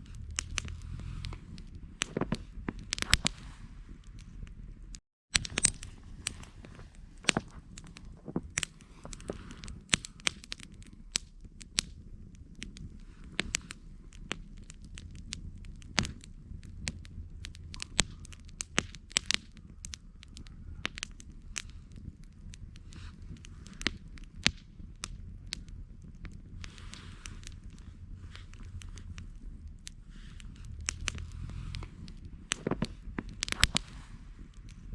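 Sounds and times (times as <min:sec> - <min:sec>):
campfire crackling and popping: 0:00.0 - 0:34.9
low steady rumble: 0:00.0 - 0:34.9.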